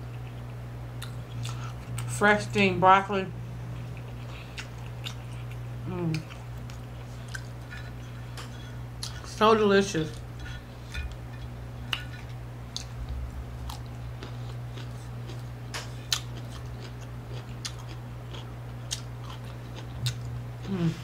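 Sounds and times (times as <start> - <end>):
person chewing: 0.0 - 2.1, 3.7 - 9.4, 10.1 - 21.0
steady low hum: 0.0 - 21.0.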